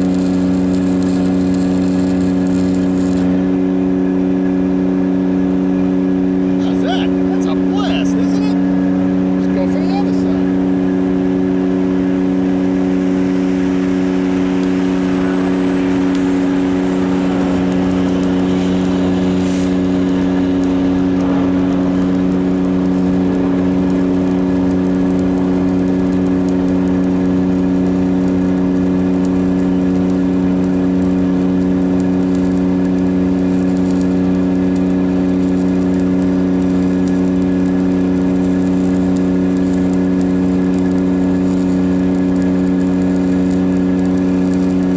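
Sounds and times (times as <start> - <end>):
arc welding crackle: 0.0 - 8.6, 9.4 - 44.9
engine running steadily: 0.0 - 44.9.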